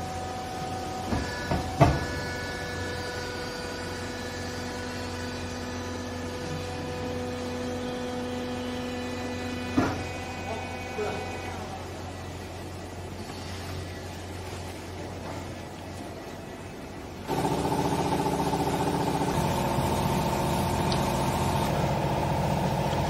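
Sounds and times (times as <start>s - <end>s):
motor and pump hum: 0.0s - 23.0s.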